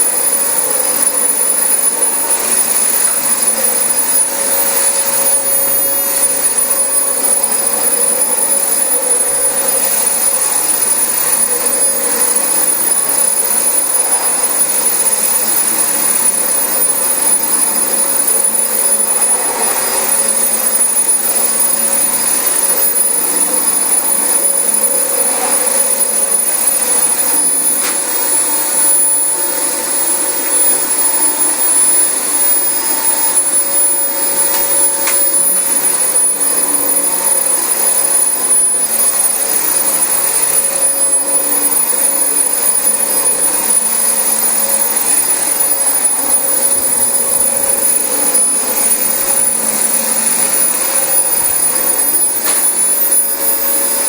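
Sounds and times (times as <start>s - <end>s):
vacuum cleaner running on carpet: 0.0s - 54.0s.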